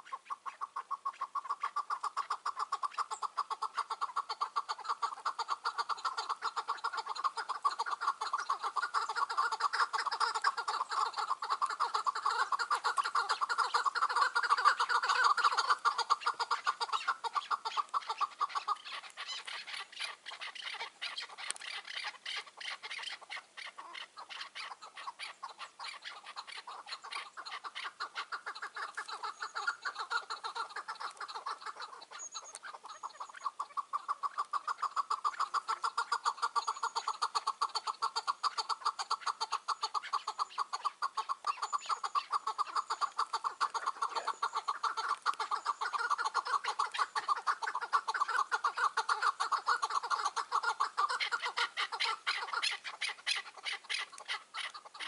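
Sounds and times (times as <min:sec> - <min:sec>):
partridge calling: 0:00.0 - 0:55.0.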